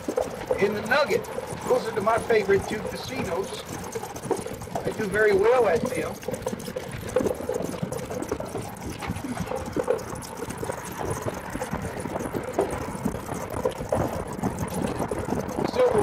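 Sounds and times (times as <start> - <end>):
cart rattling: 0.0 - 16.0.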